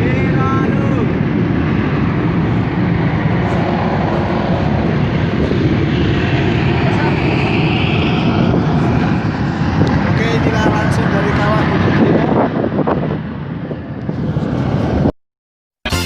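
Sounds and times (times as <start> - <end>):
deep volcanic crater roar: 0.0 - 15.1.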